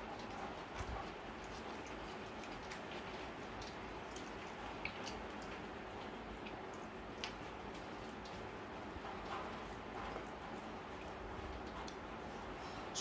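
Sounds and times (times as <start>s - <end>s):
chewing clicks and smacks: 0.0s - 12.6s.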